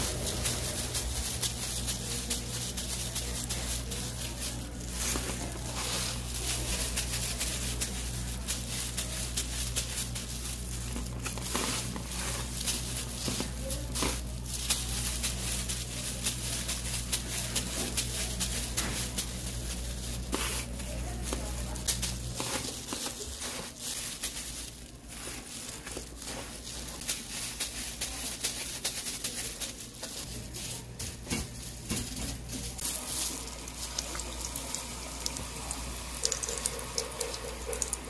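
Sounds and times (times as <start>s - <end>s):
breadcrumbs rustling: 0.0s - 38.0s
plastic gloves crinkling: 0.0s - 38.0s.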